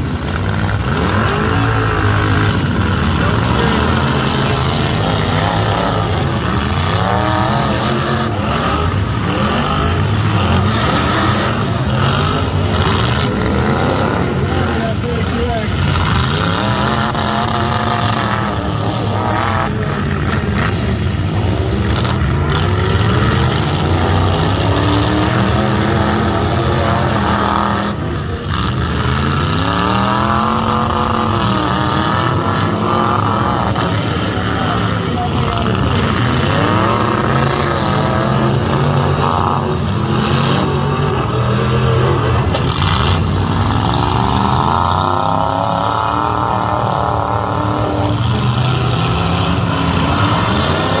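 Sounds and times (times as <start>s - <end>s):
truck engines revving: 0.0s - 51.0s.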